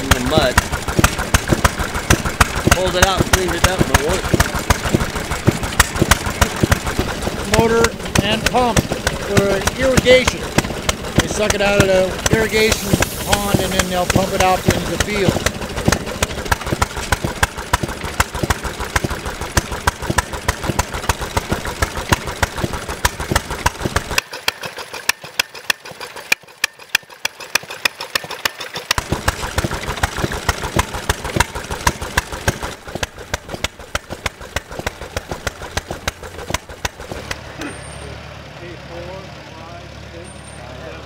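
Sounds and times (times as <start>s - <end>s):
gas engines ticking and popping: 0.0s - 41.0s.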